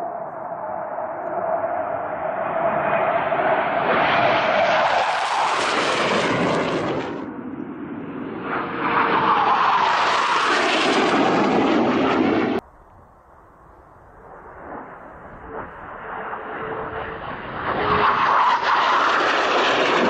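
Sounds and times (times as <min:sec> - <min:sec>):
jet flying low past: 0:00.0 - 0:20.0.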